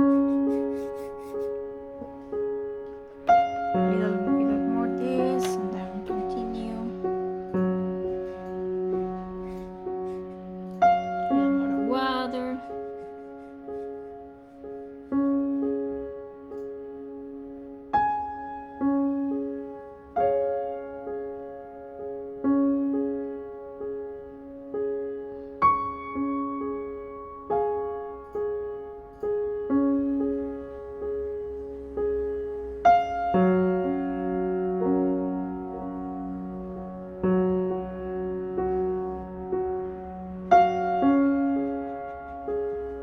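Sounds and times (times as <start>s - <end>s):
slow solo piano music: 0.0s - 43.0s.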